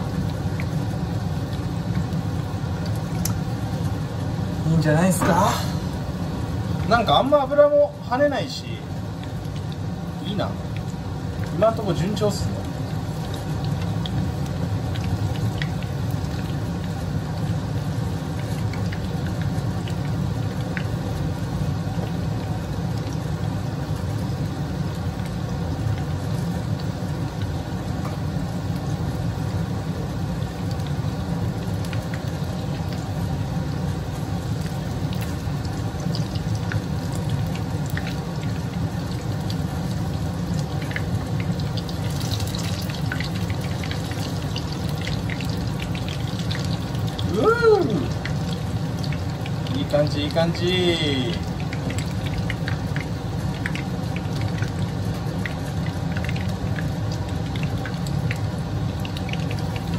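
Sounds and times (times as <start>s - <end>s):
chicken deep-frying in oil: 0.0s - 59.9s
low steady rumble: 0.0s - 59.9s.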